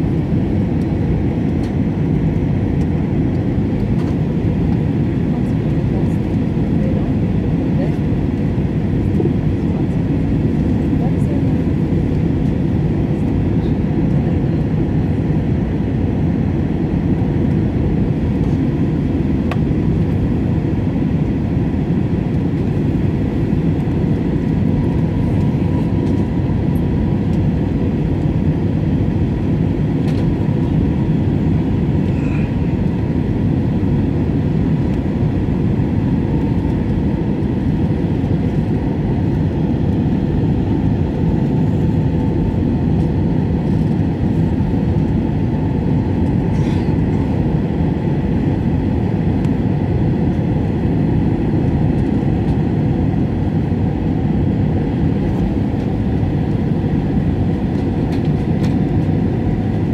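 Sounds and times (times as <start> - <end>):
jet engines and air roaring: 0.0 - 59.9.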